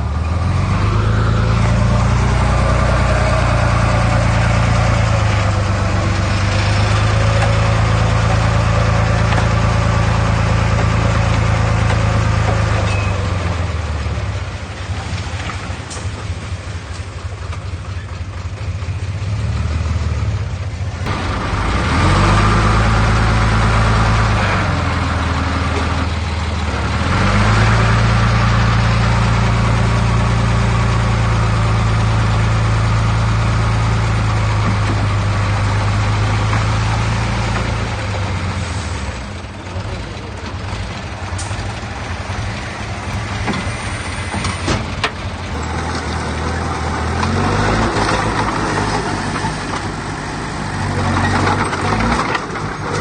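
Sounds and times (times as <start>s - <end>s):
heavy diesel engine revving: 0.0s - 53.0s.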